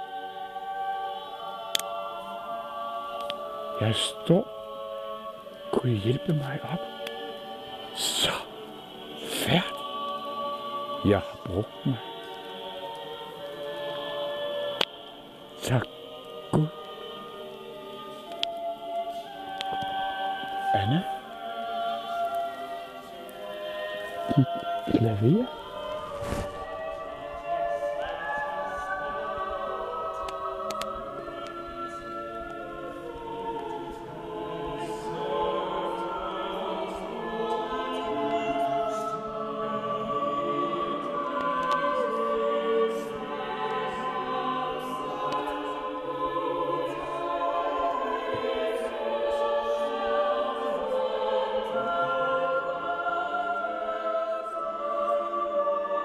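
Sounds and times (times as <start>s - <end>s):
choir singing slow chords: 0.0s - 56.0s.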